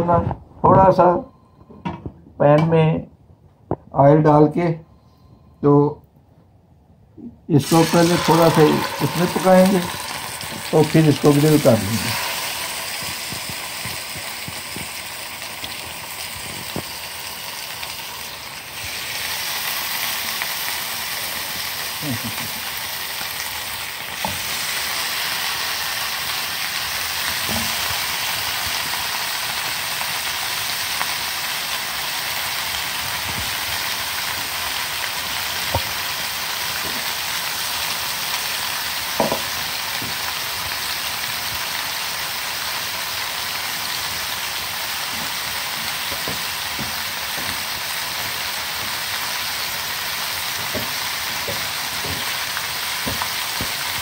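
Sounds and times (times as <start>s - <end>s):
chicken sizzling in oil: 7.6s - 54.0s.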